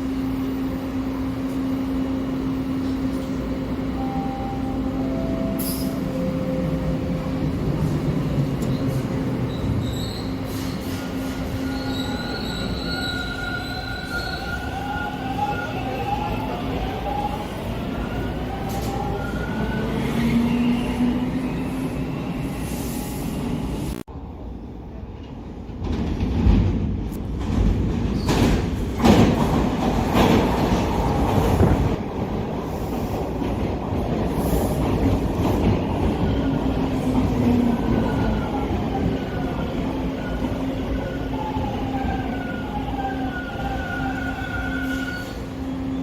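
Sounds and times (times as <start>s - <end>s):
subway train rumbling: 0.0s - 46.0s.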